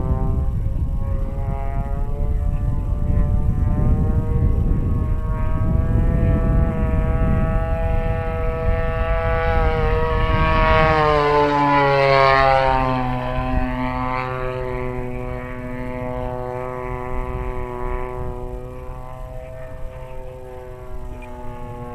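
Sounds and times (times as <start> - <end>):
model plane engine flying past: 0.0 - 21.9.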